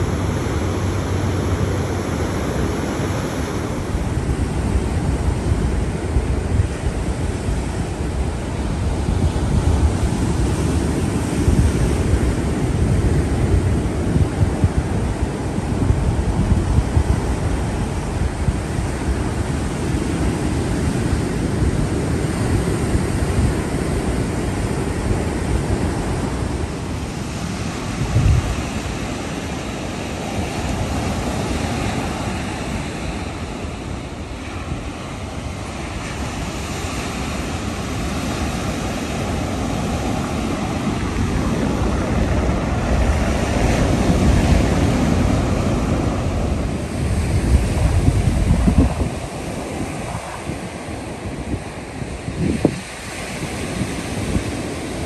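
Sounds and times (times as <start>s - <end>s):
ocean surf breaking on beach: 0.0s - 55.0s
wind rumbling on microphone: 0.0s - 55.0s.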